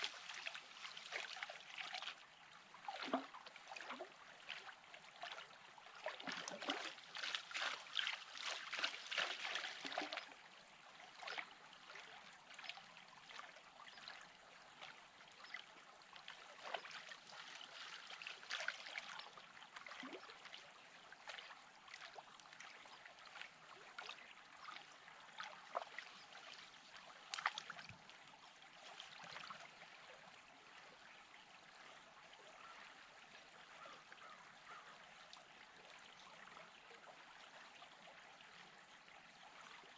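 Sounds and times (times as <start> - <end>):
running stream water: 0.0 - 39.9.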